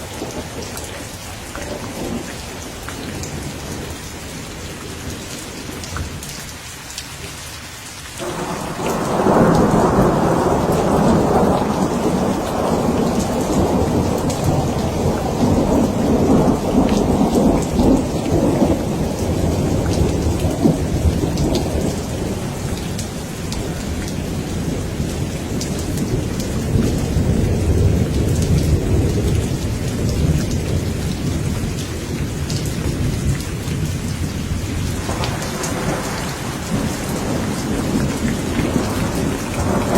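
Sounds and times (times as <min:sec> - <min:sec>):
thunder rumbling: 0:00.0 - 0:06.3, 0:08.2 - 0:39.9
steady rain falling: 0:00.0 - 0:39.9.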